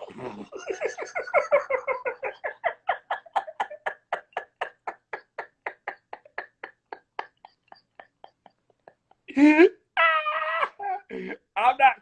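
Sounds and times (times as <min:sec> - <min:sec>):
man laughing hard: 0:00.0 - 0:11.0.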